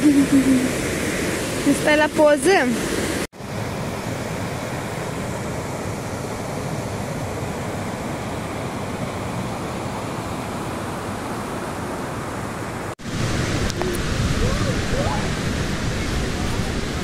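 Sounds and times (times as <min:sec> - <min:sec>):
stream rushing over a weir: 0:00.0 - 0:17.0.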